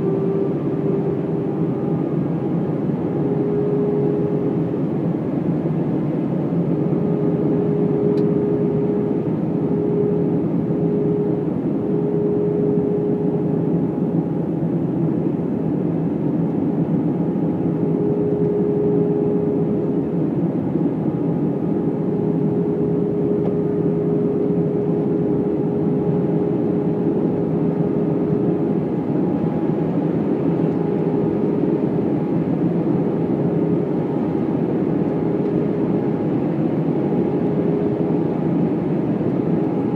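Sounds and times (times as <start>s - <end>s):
aircraft cabin engine rush: 0.0s - 39.9s
faint humming tone: 0.0s - 39.9s.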